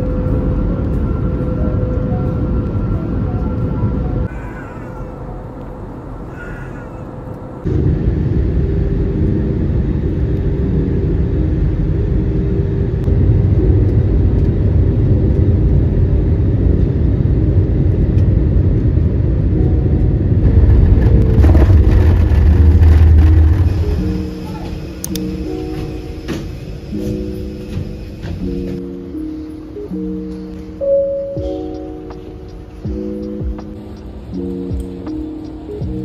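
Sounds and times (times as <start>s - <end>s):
faint steady tones: 0.0s - 36.0s
jet engine rumble and whir: 0.0s - 36.0s.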